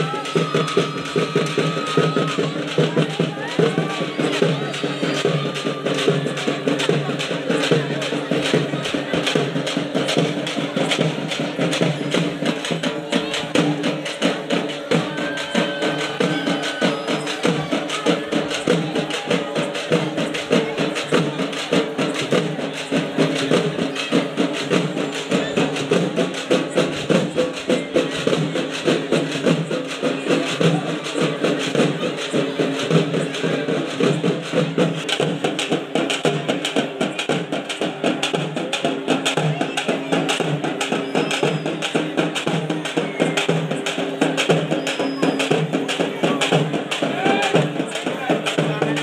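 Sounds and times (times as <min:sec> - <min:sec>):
crowd din: 0:00.0 - 0:49.0
quick steady drumming: 0:00.0 - 0:49.0.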